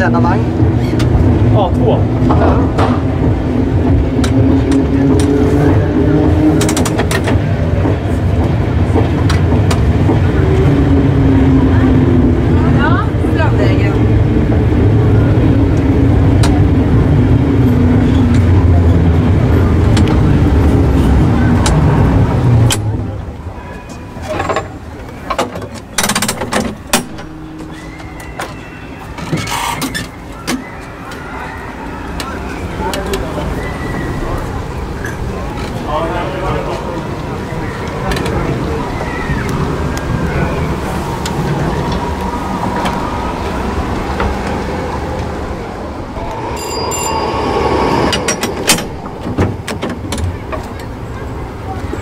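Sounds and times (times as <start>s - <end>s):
tram wheels rumbling: 0.0s - 52.0s.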